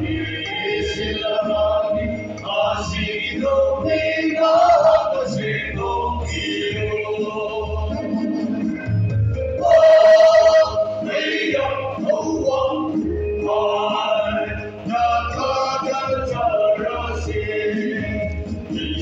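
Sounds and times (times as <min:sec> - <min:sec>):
men's choir singing: 0:00.0 - 0:09.0, 0:09.6 - 0:19.0.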